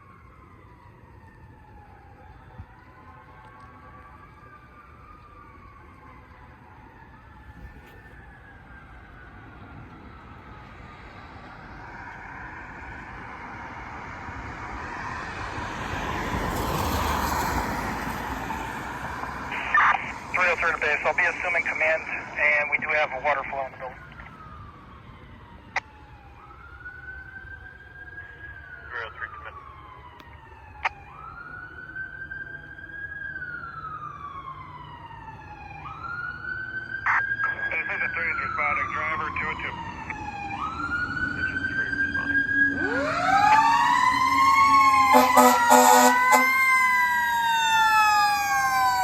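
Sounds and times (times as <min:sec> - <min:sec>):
fire engine siren: 0:00.0 - 0:49.0.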